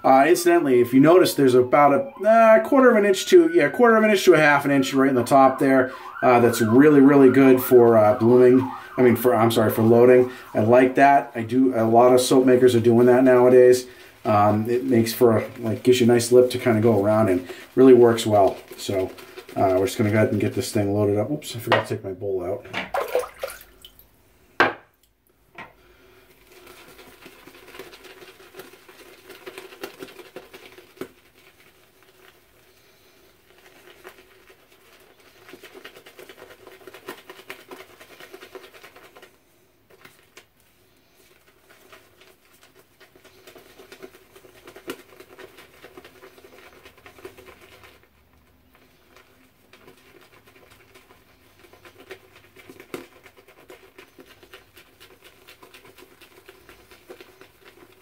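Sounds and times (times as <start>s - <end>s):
shaving brush scratching on soap: 0.0s - 21.3s, 26.2s - 58.0s.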